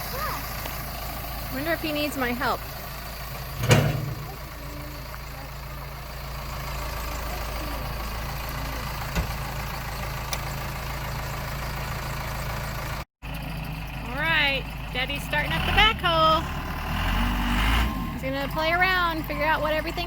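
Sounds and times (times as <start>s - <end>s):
heavy engine idling: 0.0s - 20.0s.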